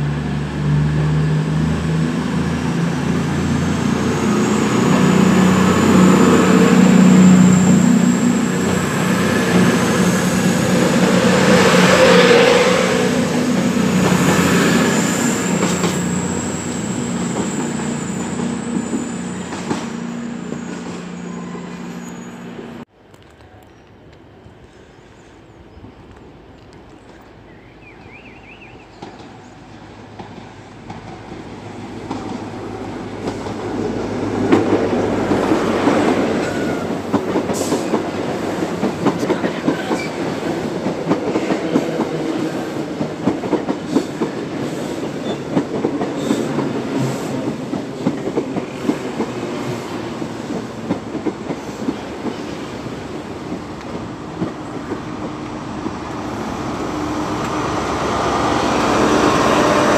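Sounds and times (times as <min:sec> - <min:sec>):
train arriving: 0:00.0 - 0:59.9.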